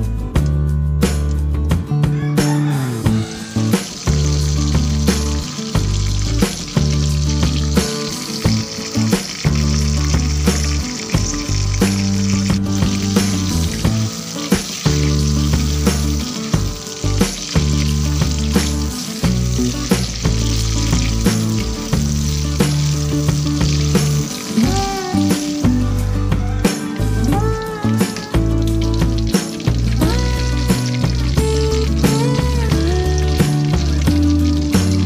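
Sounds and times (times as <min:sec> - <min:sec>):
background music with a beat: 0:00.0 - 0:35.0
mushrooms sizzling in hot oil: 0:02.5 - 0:35.0.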